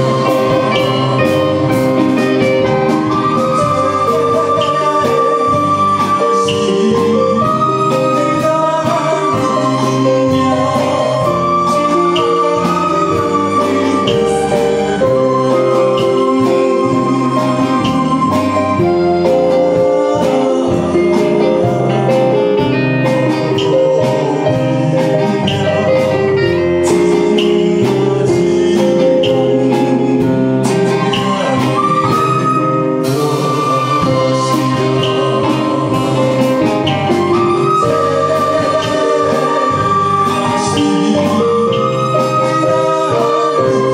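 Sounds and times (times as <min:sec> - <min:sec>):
bamboo flutes: 0:00.0 - 0:43.9
keyboards: 0:00.0 - 0:43.9
man singing a ballad: 0:00.0 - 0:43.9.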